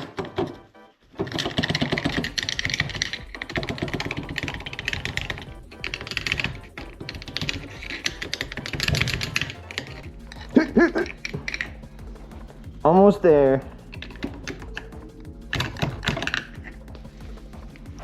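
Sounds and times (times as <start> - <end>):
metallic clicking and tapping of tools: 1.2 - 12.8, 13.6 - 18.0.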